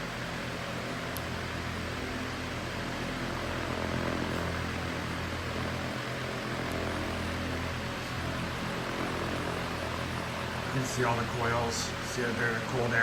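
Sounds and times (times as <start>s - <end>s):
fan air rushing: 0.0s - 13.0s
low motor hum: 0.0s - 13.0s.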